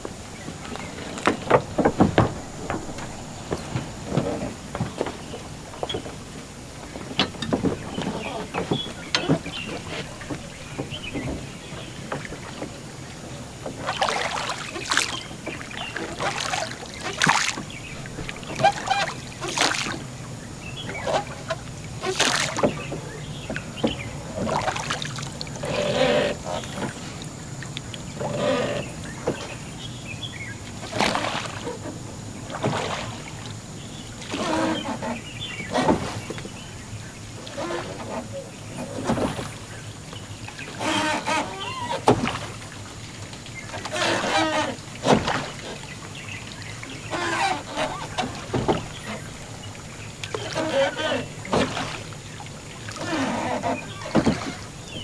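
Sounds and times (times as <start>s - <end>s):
gear knocking against boat: 0.0s - 55.0s
oar strokes splashing: 0.0s - 55.0s.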